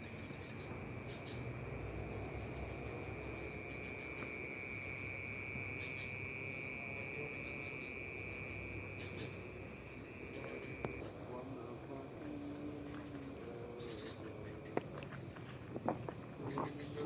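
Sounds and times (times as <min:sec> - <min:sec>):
insect high-pitched trill: 0:00.0 - 0:14.7
insect chirping in pulses: 0:00.0 - 0:17.0.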